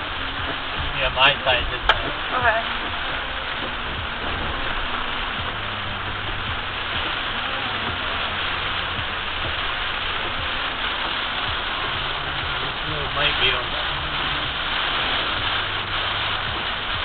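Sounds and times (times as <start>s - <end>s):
heavy rain on a car: 0.0s - 17.0s
road and engine hum: 0.0s - 17.0s.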